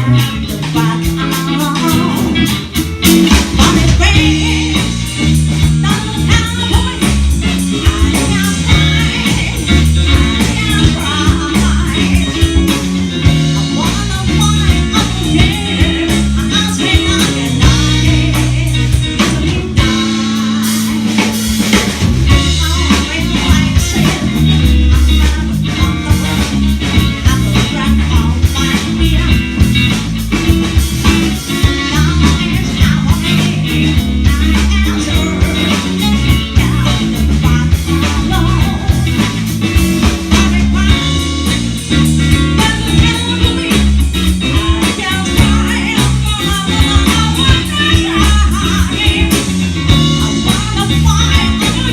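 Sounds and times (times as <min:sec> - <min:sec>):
person singing: 0:00.0 - 0:02.6, 0:03.5 - 0:21.4, 0:22.3 - 0:30.0, 0:31.0 - 0:51.9
rock band playing: 0:00.0 - 0:51.9.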